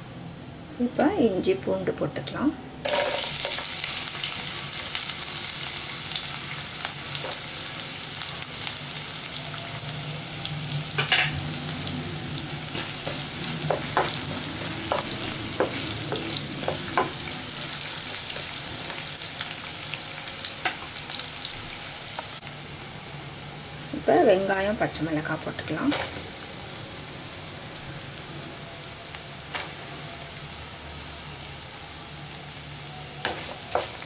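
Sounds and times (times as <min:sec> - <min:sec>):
garlic sizzling in hot oil: 0:02.8 - 0:34.0.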